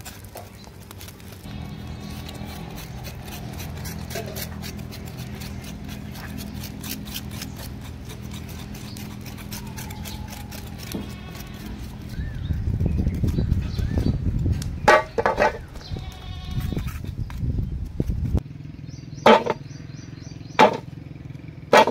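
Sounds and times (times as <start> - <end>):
knife scraping trotters: 0.0 - 18.4, 19.3 - 19.6, 20.6 - 20.9
steady low hum: 0.0 - 21.9.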